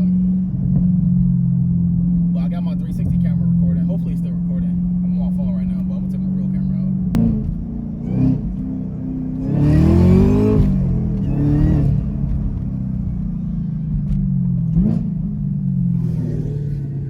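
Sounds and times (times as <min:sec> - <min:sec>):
vehicle engine idling and revving: 0:00.0 - 0:17.0.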